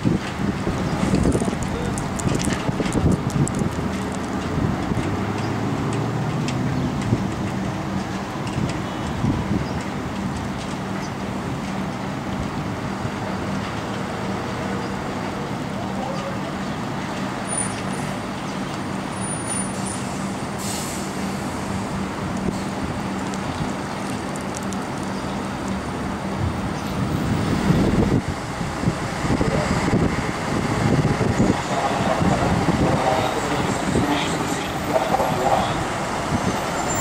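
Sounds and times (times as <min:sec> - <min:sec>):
wind buffeting microphone: 0:00.0 - 0:14.1, 0:21.2 - 0:37.0
bus engine rumble: 0:00.0 - 0:37.0
road traffic noise: 0:00.0 - 0:37.0.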